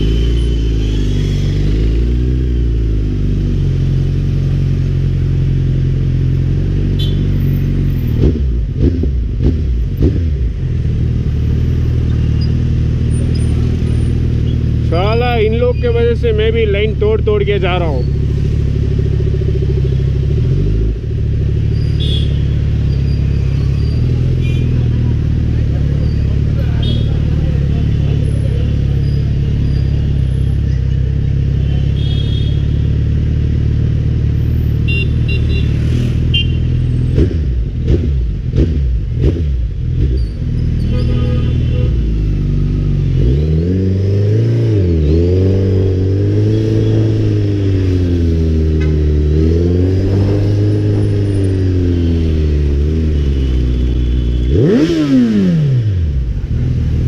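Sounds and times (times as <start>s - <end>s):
motorcycle engine at low revs: 0.0s - 15.6s, 16.2s - 57.0s
motorcycle engine revving: 0.0s - 57.0s.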